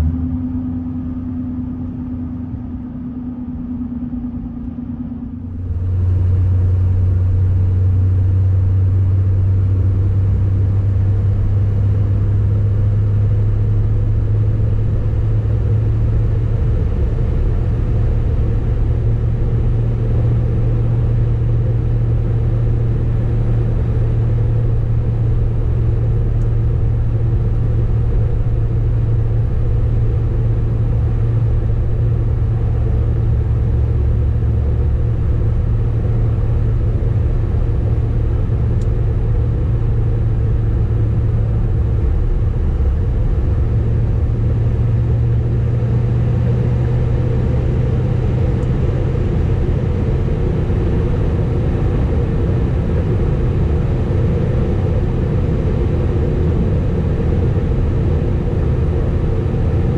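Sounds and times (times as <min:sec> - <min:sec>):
pickup truck engine rumble: 0:00.0 - 0:59.9.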